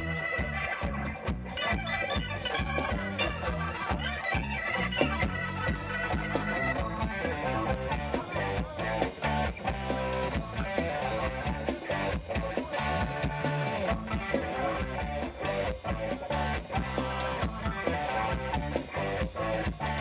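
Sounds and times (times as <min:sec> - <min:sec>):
bass: 0:00.0 - 0:20.0
electric guitar: 0:00.0 - 0:20.0
organ keyboard: 0:00.0 - 0:20.0
drum beat: 0:02.2 - 0:20.0.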